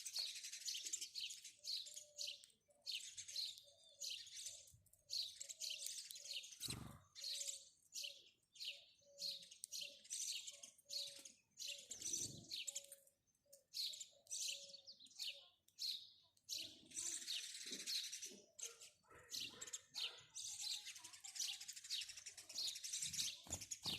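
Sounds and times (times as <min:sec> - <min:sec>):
sparrow chirping: 0:00.0 - 0:23.9.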